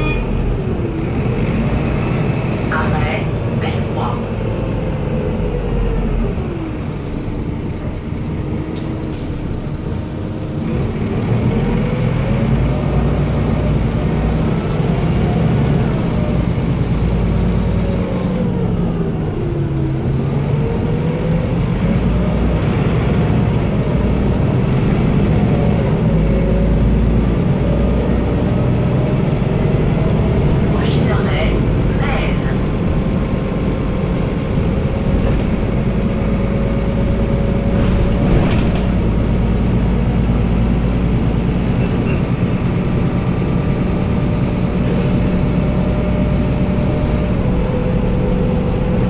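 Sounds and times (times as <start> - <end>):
bus engine low rumble: 0.0 - 49.0.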